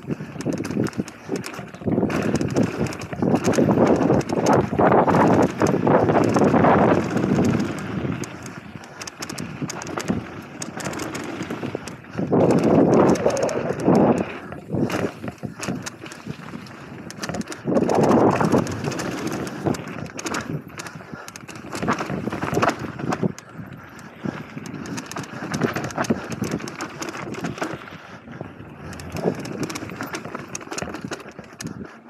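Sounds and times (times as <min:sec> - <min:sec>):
bike knocking and rattling: 0:00.0 - 0:32.0
bike tyres on dirt and gravel: 0:00.0 - 0:32.0.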